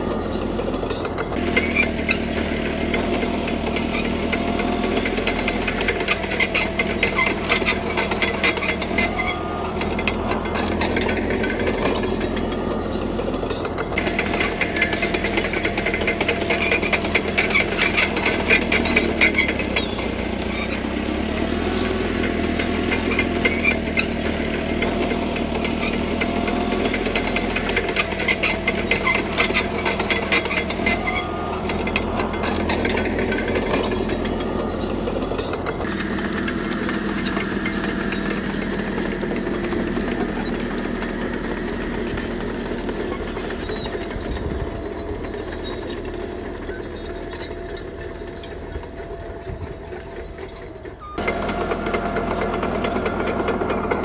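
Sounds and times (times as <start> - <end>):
bulldozer diesel engine running: 0.0 - 54.0
steel tracks clanking and squeaking: 0.0 - 54.0.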